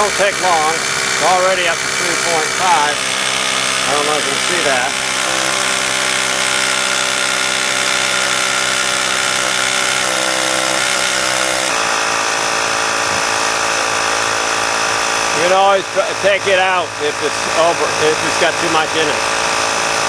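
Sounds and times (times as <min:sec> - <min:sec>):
tire inflator pumping air: 0:00.0 - 0:20.0.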